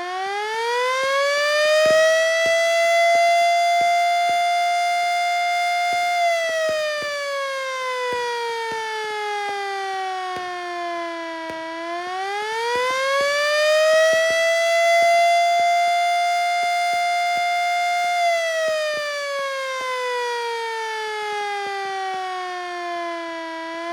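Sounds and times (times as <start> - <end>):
motor-driven siren: 0.0 - 23.9.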